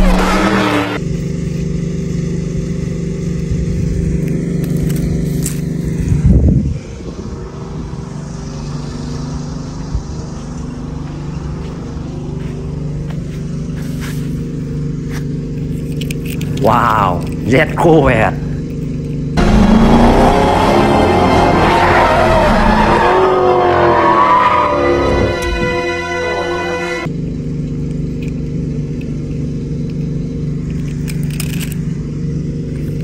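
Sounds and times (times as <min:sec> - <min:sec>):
race car engines droning: 0:00.0 - 0:33.0.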